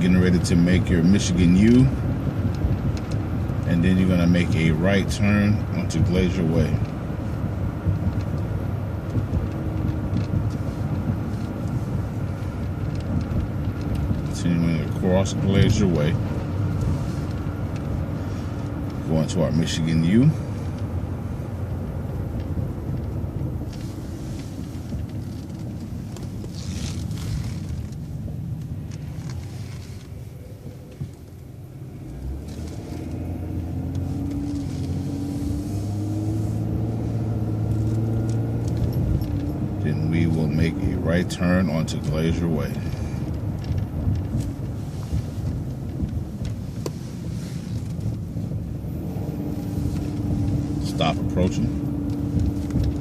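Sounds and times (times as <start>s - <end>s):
bus engine rumbling: 0.0s - 53.0s.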